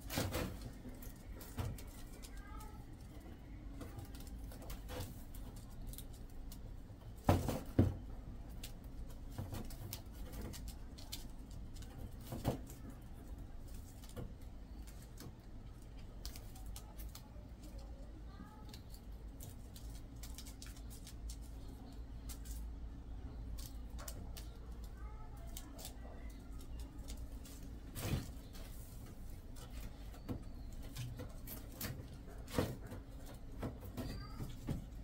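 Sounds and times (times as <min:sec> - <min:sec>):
kittens scratching and tapping: 0:00.0 - 0:35.0.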